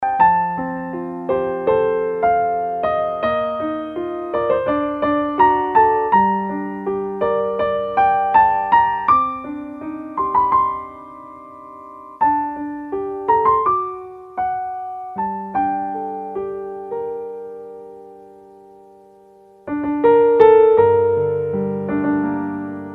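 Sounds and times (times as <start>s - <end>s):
gentle piano music: 0.0s - 22.9s.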